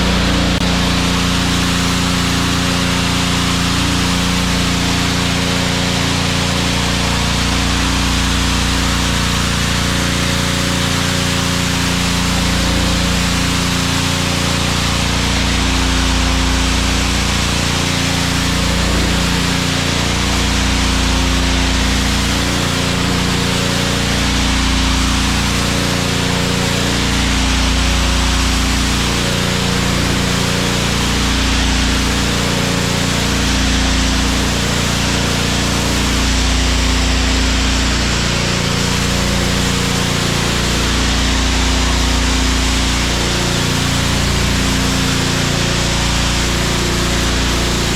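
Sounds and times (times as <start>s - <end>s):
high-pressure water jet hissing: 0.0s - 47.9s
pressure washer engine hum: 0.0s - 47.9s.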